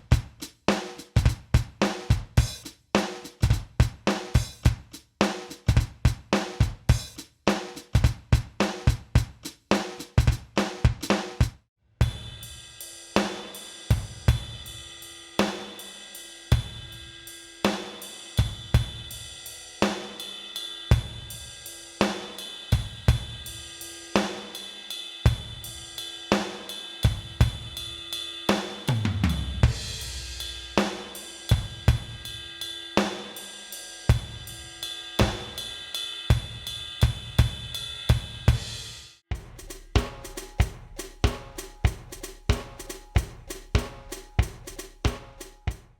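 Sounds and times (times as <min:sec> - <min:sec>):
drum beat: 0:00.0 - 0:15.9, 0:16.5 - 0:17.0, 0:17.7 - 0:20.2, 0:20.9 - 0:24.5, 0:25.3 - 0:33.5, 0:34.1 - 0:45.9.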